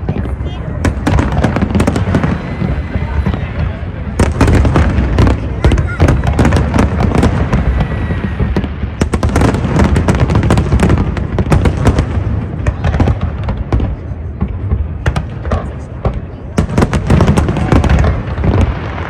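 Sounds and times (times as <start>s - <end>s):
low rumble of booms: 0.0s - 16.2s
firework bangs and crackles: 0.0s - 19.0s.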